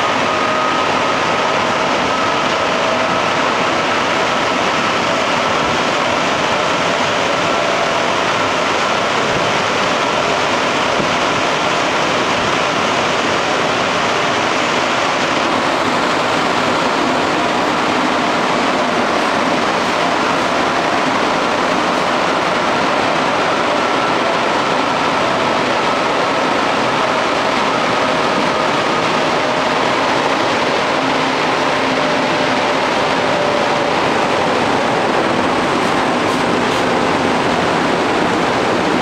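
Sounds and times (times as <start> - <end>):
faint train whine: 0.0 - 39.0
metro train interior rush: 0.0 - 39.0.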